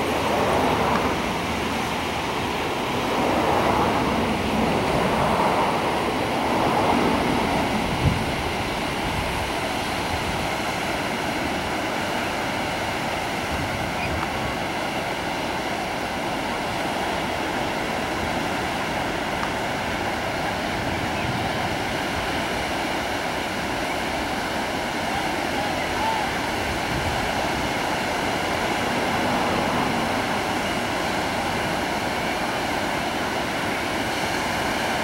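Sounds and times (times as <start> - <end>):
waves breaking on rocky shore: 0.0 - 35.0.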